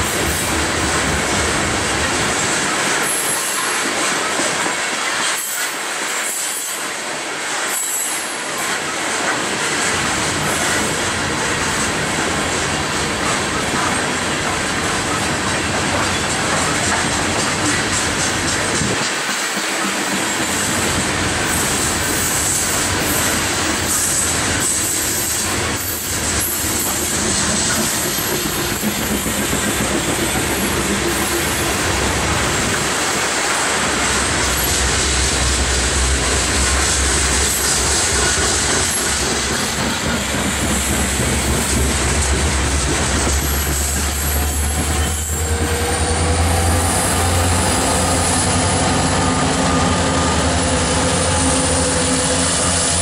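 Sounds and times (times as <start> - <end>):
train wheels clicking over rails: 0.0 - 53.0.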